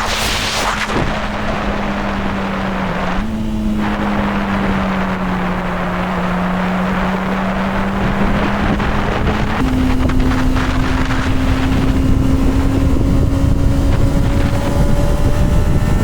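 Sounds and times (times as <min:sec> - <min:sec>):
wind buffeting microphone: 0:00.0 - 0:16.0
motorcycle engine running: 0:01.2 - 0:16.0.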